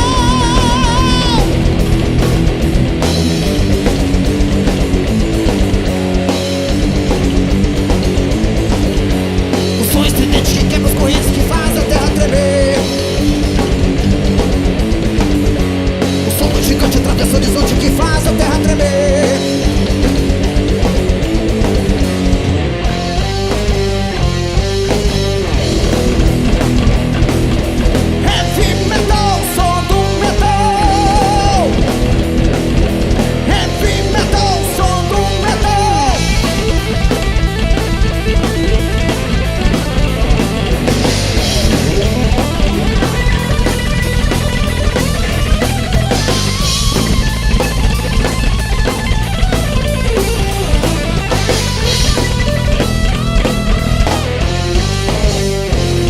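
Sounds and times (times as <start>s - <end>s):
drum kit: 0.0s - 56.0s
heavy metal band playing: 0.0s - 56.0s
lead guitar melody: 0.0s - 56.0s.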